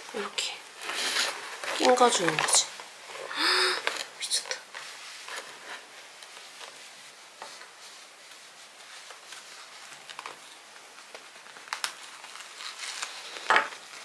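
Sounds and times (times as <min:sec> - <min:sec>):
tissue box rustling: 0:00.2 - 0:14.0.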